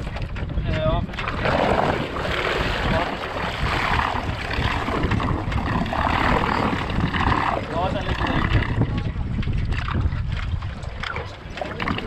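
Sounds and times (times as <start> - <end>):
water rushing along hulls: 0.0 - 12.0
wind buffeting microphone: 0.0 - 12.0.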